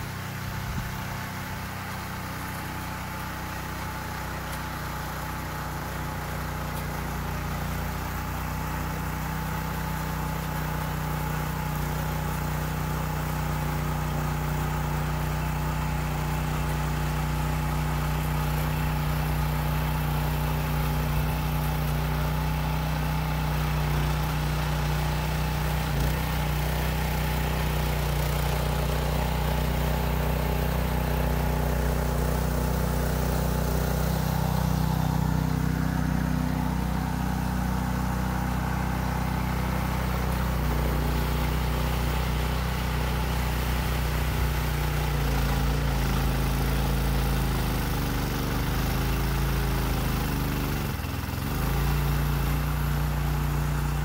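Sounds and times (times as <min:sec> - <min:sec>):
garden tiller engine running: 0:00.0 - 0:54.0.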